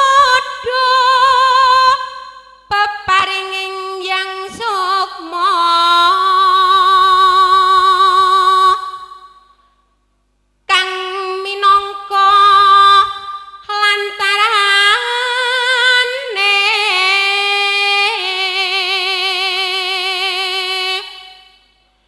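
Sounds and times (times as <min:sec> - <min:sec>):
woman singing with vibrato: 0:00.0 - 0:09.6, 0:10.7 - 0:21.8.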